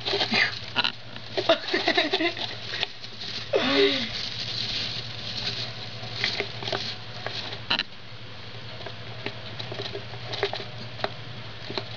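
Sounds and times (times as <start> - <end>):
mice scurrying in wood shavings: 0.0 - 11.9.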